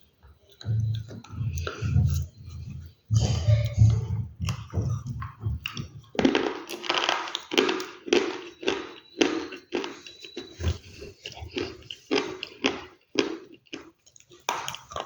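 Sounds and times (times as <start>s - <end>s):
crunchy food being chewed: 0.0s - 15.0s.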